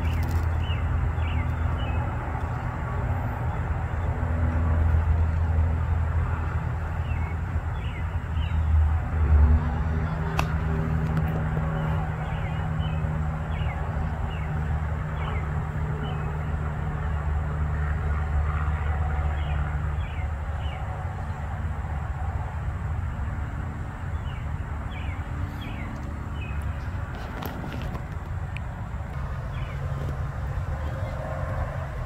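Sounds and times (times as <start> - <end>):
low motor drone: 0.0 - 32.0.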